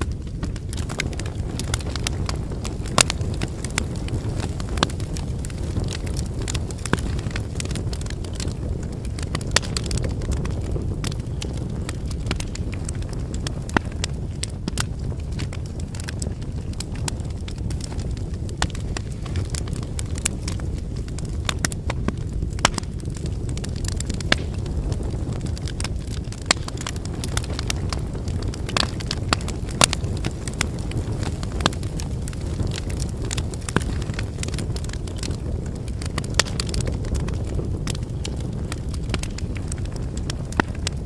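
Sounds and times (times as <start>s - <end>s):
firewood crackling and popping: 0.0s - 41.0s
rush of flames: 0.0s - 41.0s.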